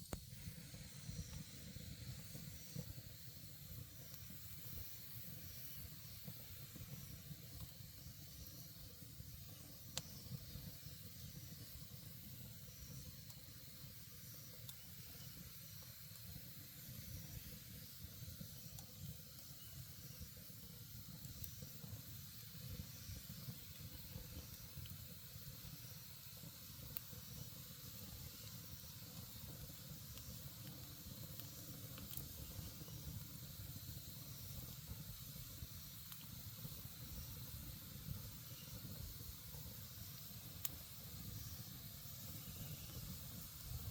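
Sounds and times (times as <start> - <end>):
campfire hissing and crackling: 0.0 - 43.9.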